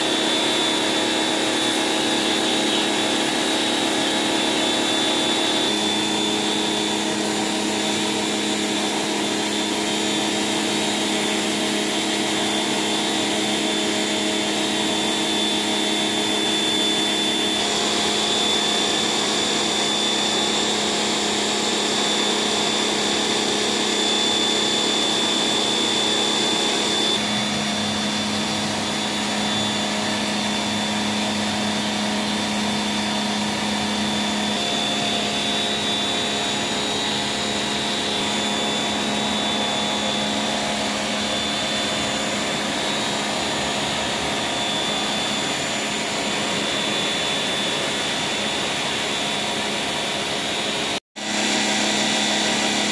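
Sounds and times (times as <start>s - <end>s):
pressure washer motor whine: 0.0s - 52.9s
water jet spraying on stone floor: 0.0s - 52.9s.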